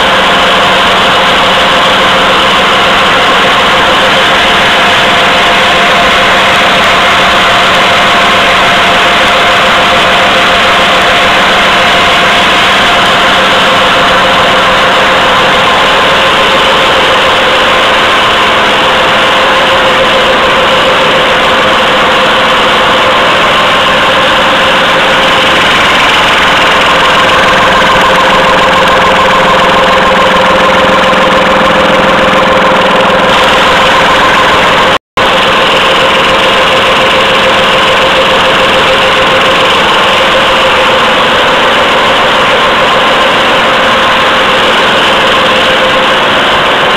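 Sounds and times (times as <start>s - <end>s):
tissue machine running with whine: 0.0s - 46.9s.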